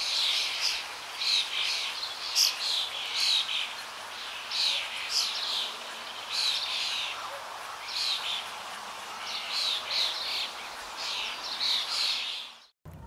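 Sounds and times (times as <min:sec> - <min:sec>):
birds chirping: 0:00.0 - 0:12.7
steady hiss: 0:00.0 - 0:12.7.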